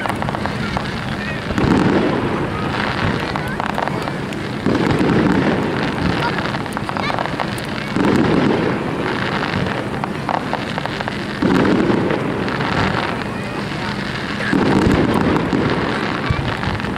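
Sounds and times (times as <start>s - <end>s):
firework booms: 0.0s - 16.9s
firework crackling: 0.0s - 16.9s.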